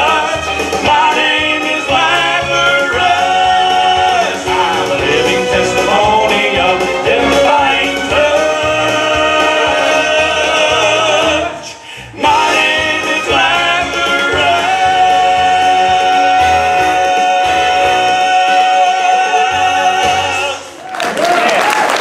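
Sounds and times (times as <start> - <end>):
men's vocal group singing: 0.0 - 20.8.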